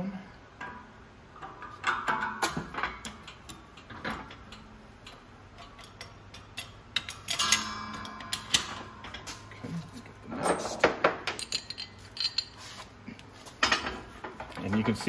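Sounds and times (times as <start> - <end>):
metal wheel hub clinking: 0.6 - 12.8.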